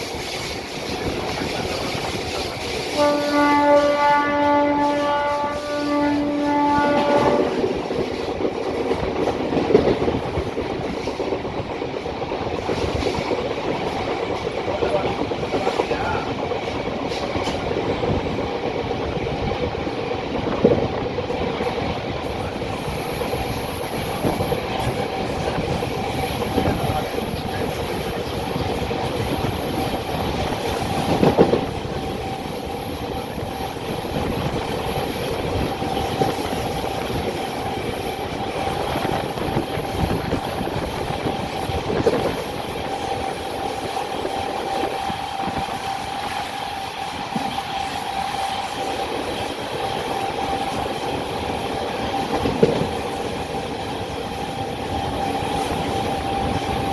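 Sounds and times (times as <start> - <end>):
train wheels rumbling on rails: 0.0 - 56.9
train whine: 0.0 - 56.9.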